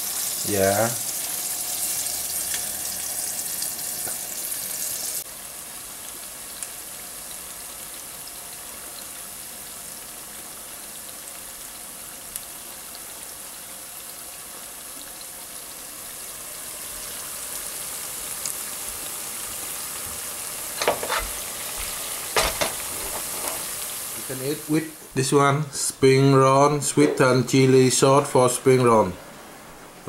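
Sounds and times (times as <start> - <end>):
fish deep-frying in oil: 0.0 - 24.9.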